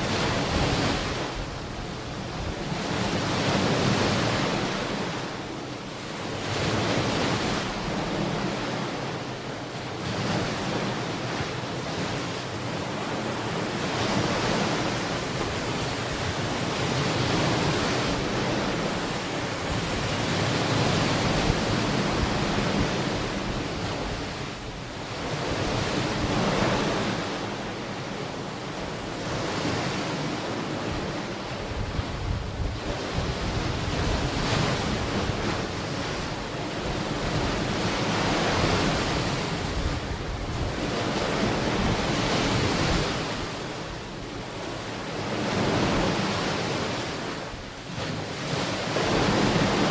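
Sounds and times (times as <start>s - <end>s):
wind noise on microphone: 0.0s - 5.3s, 10.0s - 27.3s, 29.1s - 49.9s
ocean waves on beach: 0.0s - 49.9s.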